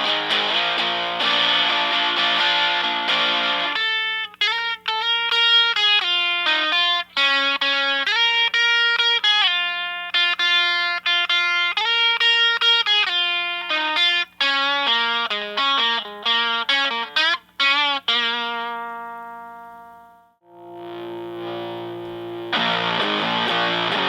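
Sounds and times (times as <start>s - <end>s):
distorted electric guitar lead: 0.0s - 24.0s
faint steady hum: 0.0s - 24.0s.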